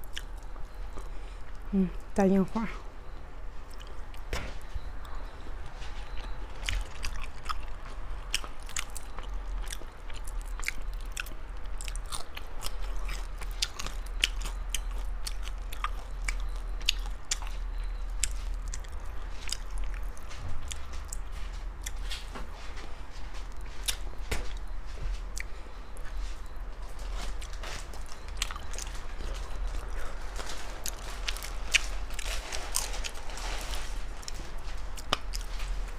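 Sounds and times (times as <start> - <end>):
chewing and crunching: 0.0 - 35.9
low steady hum: 0.0 - 35.9.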